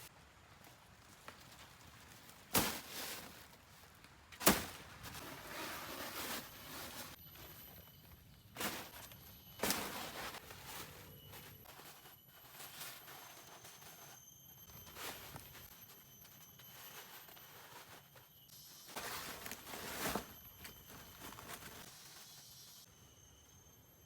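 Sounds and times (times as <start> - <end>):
dry leaves rustling and crunching: 0.4 - 18.1, 18.8 - 22.5.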